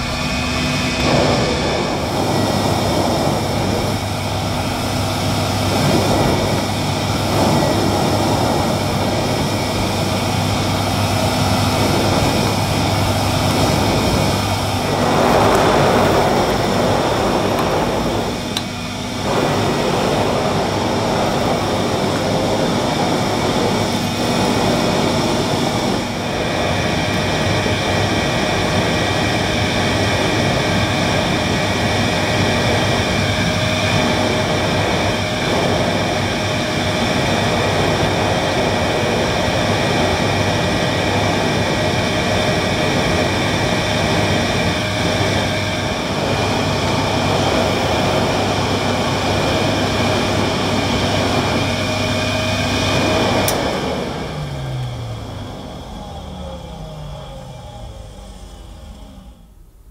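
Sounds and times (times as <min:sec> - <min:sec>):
vacuum cleaner running on carpet: 0:00.0 - 0:59.6.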